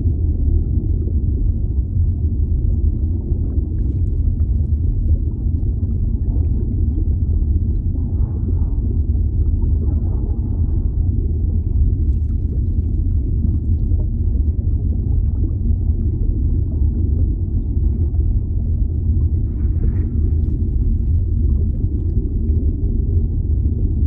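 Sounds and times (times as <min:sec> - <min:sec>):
deep underwater rumble: 0:00.0 - 0:24.0.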